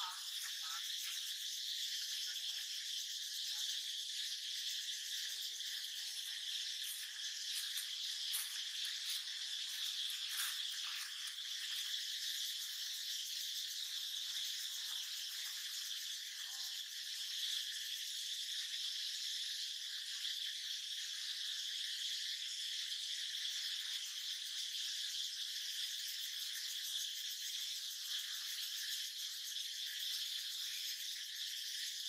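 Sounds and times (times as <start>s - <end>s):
forest insects buzzing: 0.0s - 32.0s.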